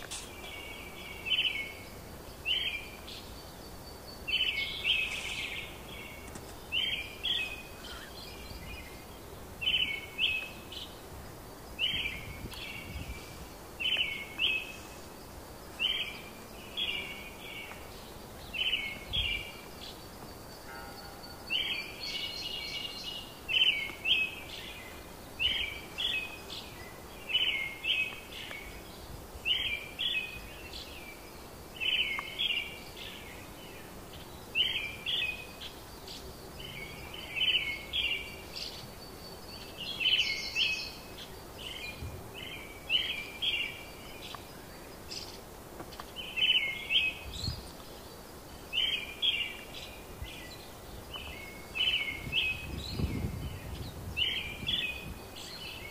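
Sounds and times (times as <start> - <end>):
faint outdoor background: 0.0 - 55.9
songbird calling: 0.0 - 55.9.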